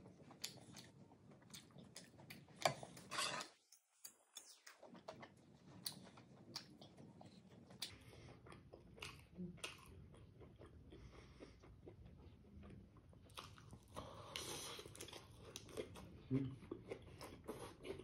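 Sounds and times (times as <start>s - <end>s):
faint chewing: 0.0s - 18.0s.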